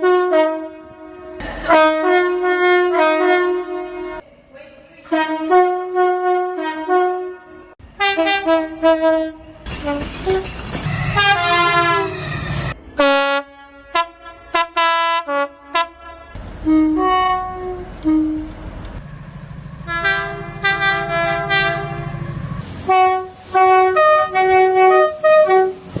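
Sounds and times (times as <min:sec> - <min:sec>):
two-tone train horn blasts: 0:00.0 - 0:04.2, 0:05.1 - 0:18.6, 0:19.8 - 0:26.0
low train rumble: 0:00.0 - 0:26.0.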